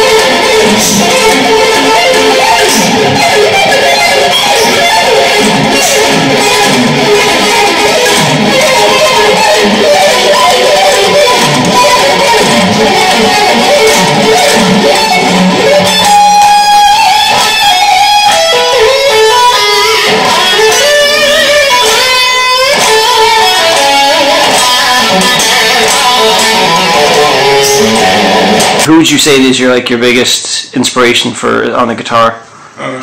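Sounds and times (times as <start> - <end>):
electric guitar lead line: 0.0 - 29.0.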